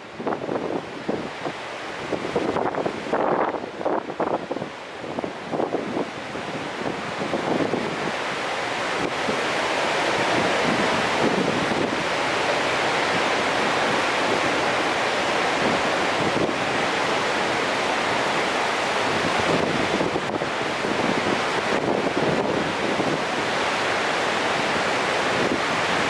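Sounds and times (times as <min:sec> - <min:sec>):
waterfall roaring: 0:00.0 - 0:26.0
wind buffeting microphone: 0:00.0 - 0:26.0.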